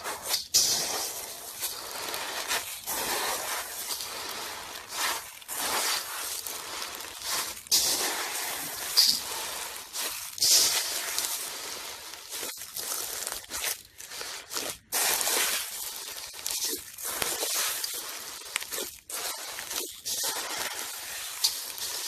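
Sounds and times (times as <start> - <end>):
slime crackling and popping: 0.0 - 22.0.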